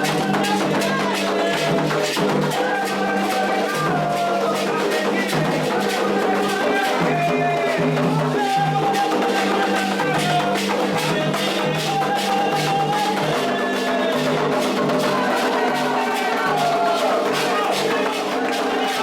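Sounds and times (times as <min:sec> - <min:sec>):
hand drums: 0:00.0 - 0:19.0
struck percussion: 0:00.0 - 0:19.0
voices singing held notes: 0:00.0 - 0:19.0.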